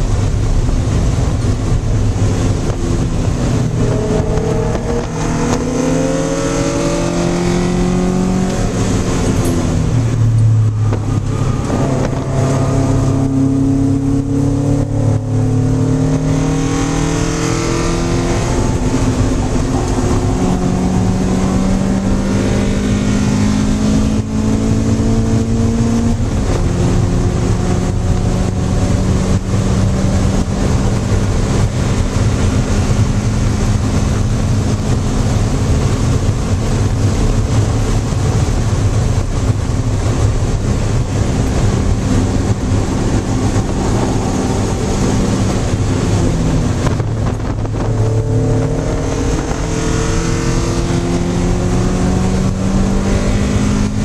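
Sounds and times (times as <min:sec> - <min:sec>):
car engine revving: 0:00.0 - 0:54.0
wind and road noise: 0:00.0 - 0:54.0.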